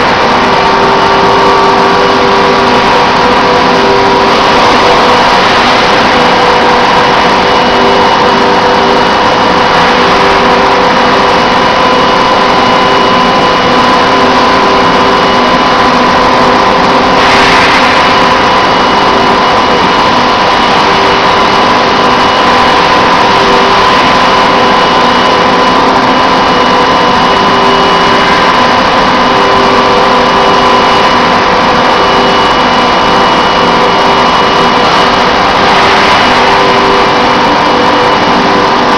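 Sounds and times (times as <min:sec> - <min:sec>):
machinery mechanical hum: 0:00.0 - 0:38.9.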